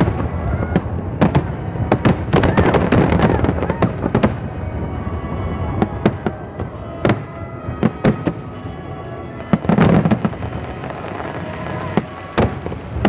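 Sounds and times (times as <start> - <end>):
fireworks bangs: 0.0 - 13.0
steady music: 0.0 - 13.0.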